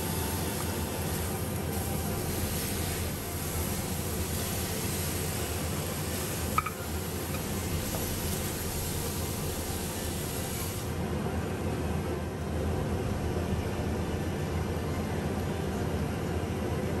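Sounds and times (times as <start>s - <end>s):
steady rushing fan noise: 0.0s - 17.0s.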